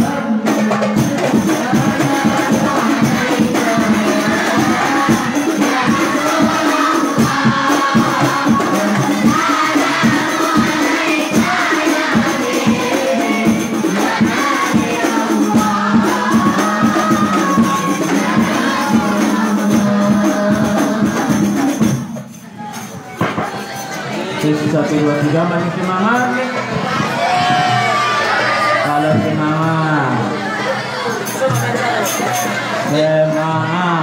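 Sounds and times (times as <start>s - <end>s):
frame drums beating: 0.0s - 29.6s
group singing: 0.0s - 34.0s.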